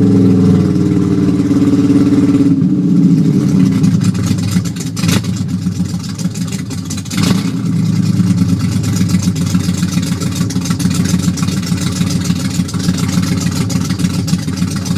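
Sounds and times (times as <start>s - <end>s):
car engine idling unevenly: 0.0s - 14.9s.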